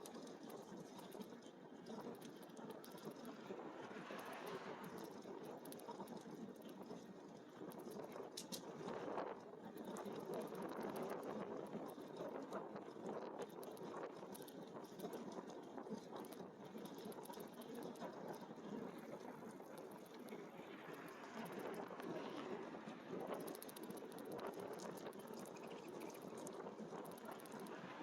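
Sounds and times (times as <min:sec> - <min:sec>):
small rattles and clicks: 0:00.0 - 0:03.5, 0:04.1 - 0:22.4, 0:23.2 - 0:27.9.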